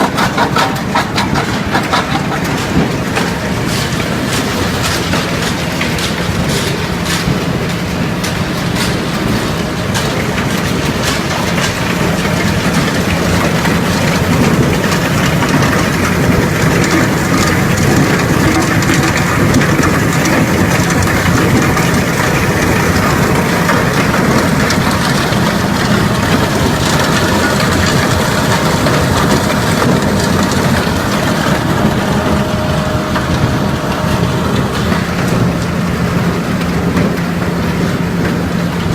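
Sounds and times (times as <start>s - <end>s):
grinding mill machine drone: 0.0s - 38.9s.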